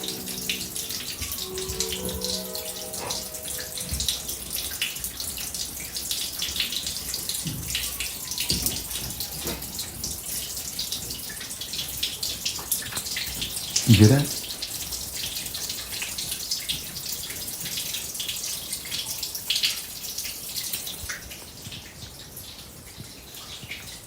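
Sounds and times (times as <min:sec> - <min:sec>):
water dripping: 0:00.0 - 0:24.0.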